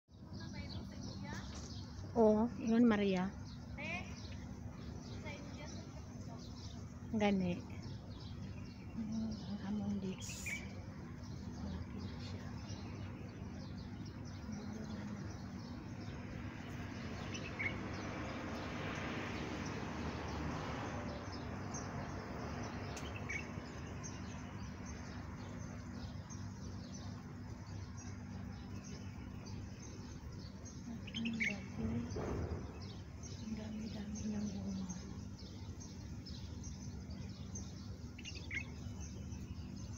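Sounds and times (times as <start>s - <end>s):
bird chirps: 0.1s - 39.9s
steady low hum: 0.2s - 39.9s.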